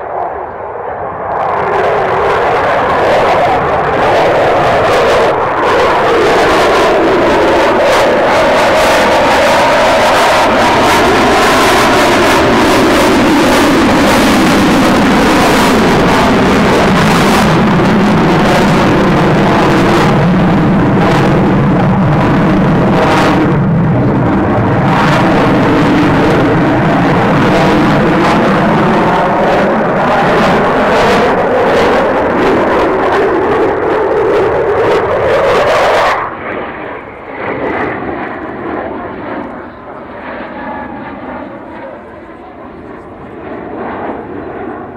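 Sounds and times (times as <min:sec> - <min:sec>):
loud jet roar: 0:00.0 - 0:44.9.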